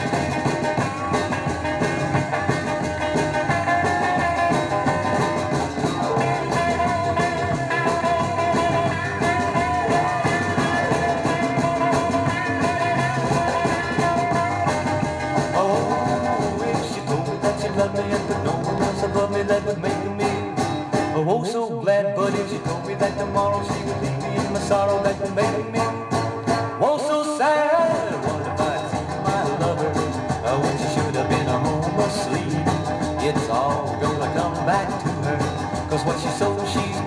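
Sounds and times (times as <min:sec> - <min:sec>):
band music from vinyl record: 0:00.0 - 0:37.0.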